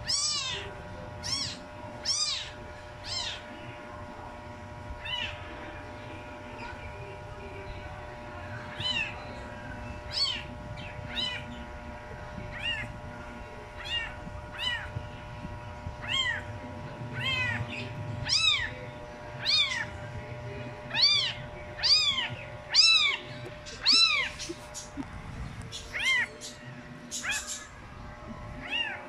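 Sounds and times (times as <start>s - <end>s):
kittens mewing: 0.0s - 3.8s, 5.0s - 5.7s, 8.5s - 13.1s, 13.7s - 27.9s, 28.5s - 29.0s.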